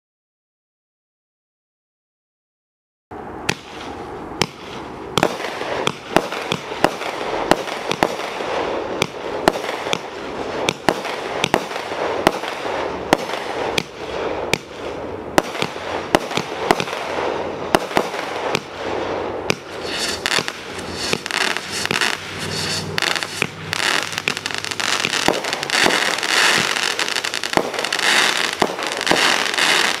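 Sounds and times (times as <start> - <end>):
continuous rushing noise: 3.1 - 30.0
firework shots: 3.4 - 30.0
firework crackling: 3.5 - 30.0.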